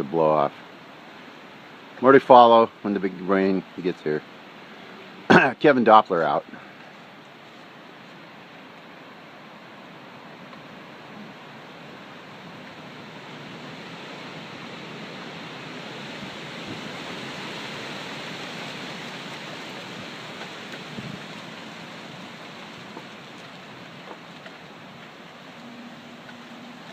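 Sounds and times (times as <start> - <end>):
storm wind rushing through trees: 0.0 - 26.9.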